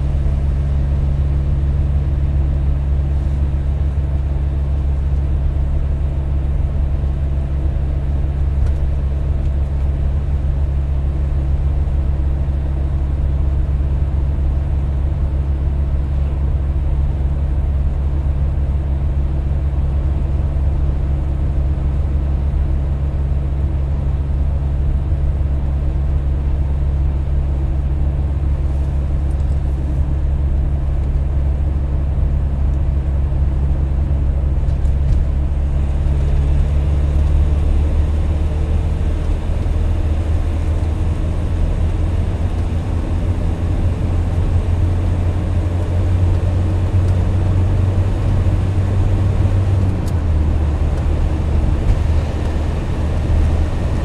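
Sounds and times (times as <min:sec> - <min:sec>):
car engine and tyre drone: 0:00.0 - 0:54.0.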